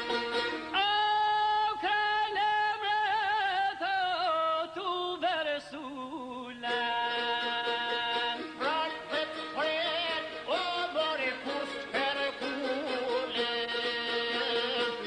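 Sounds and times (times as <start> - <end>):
man singing folk song: 0.0 - 15.0.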